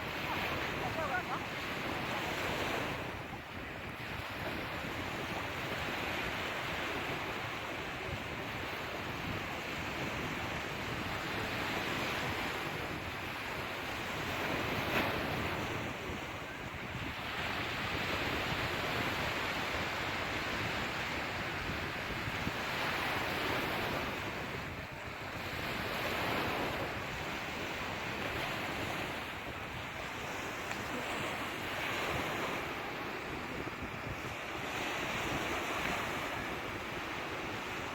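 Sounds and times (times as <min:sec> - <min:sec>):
sea surf washing on shore: 0:00.0 - 0:37.9.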